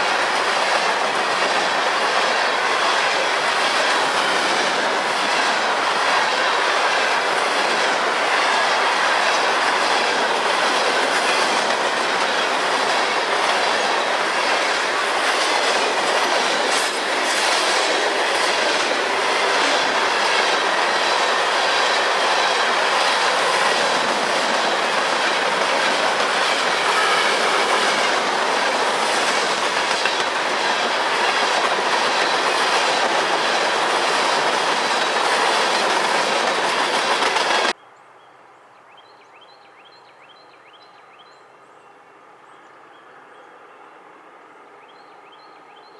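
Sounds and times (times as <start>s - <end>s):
freight train cars rolling past: 0.0s - 37.8s.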